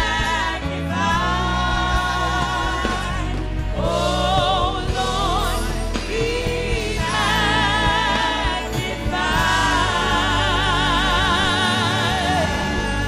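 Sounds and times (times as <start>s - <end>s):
gospel choir singing: 0.0s - 13.0s
instrumental backing: 0.0s - 13.0s.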